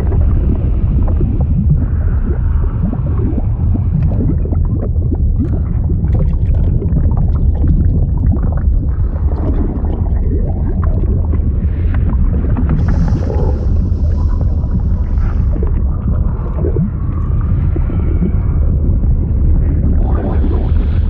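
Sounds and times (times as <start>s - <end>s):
bubbling and gurgling liquid: 0.0s - 21.0s
deep rumble: 0.0s - 21.0s.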